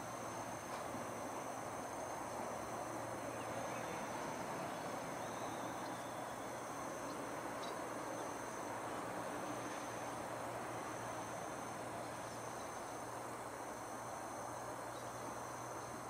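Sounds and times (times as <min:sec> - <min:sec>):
constant rushing hiss: 0:00.0 - 0:16.0.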